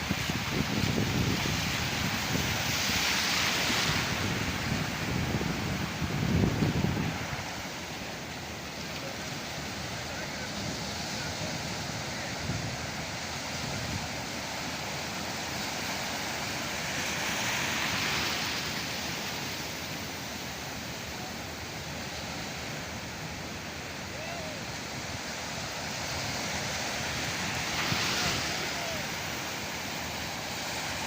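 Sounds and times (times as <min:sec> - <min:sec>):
sea waves breaking: 0:00.0 - 0:31.0.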